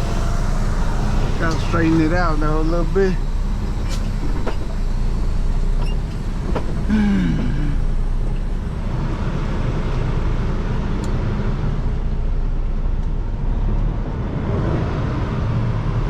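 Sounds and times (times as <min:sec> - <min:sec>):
diesel truck engine idling: 0:00.0 - 0:13.7.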